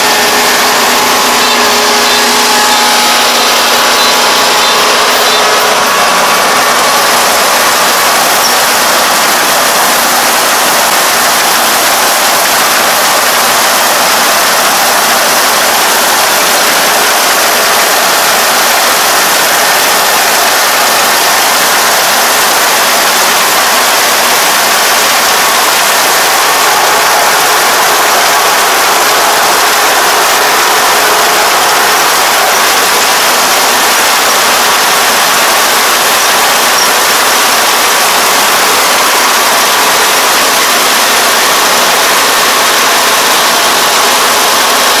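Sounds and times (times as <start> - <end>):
combine harvester running: 0.0 - 45.0.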